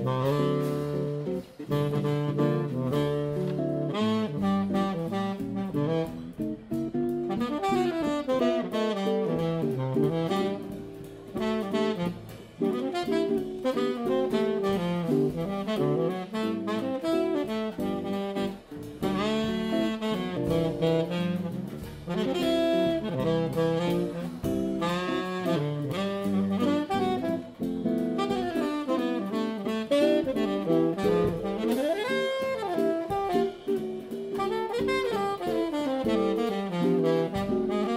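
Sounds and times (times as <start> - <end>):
drums: 0.0 - 37.9
guitar: 0.0 - 37.9
saxophone playing jazz melody: 0.0 - 37.9.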